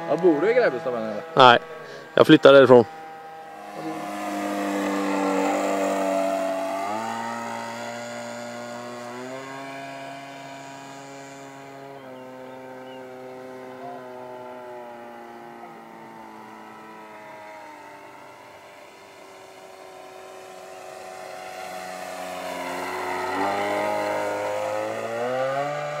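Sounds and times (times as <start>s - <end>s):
model airplane motor droning: 0.0s - 26.0s.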